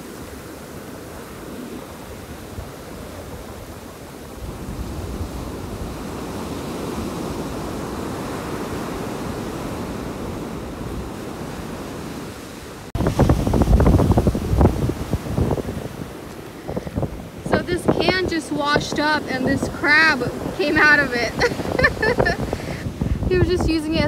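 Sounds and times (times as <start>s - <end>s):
surf washing up sand: 0.0s - 24.0s
wind buffeting microphone: 0.0s - 24.0s.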